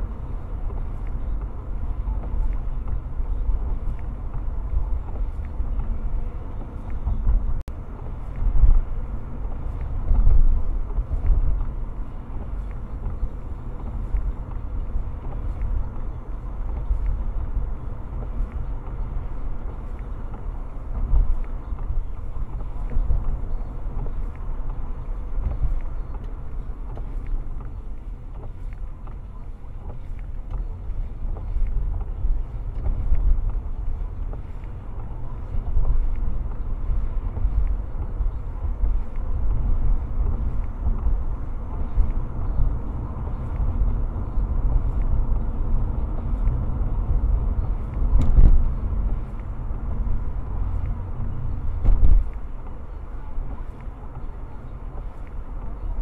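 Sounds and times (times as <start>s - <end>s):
tyre noise on wet road: 0.0s - 56.0s.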